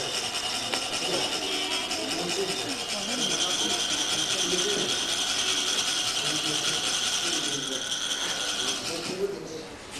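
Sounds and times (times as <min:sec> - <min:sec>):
metal rod rasping on ridged funnel: 0:00.0 - 0:09.5.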